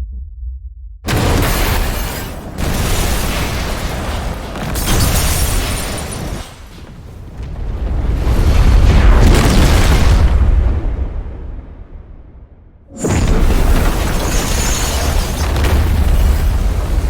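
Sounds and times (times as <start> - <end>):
explosive blast and rumble: 0.0 - 17.0.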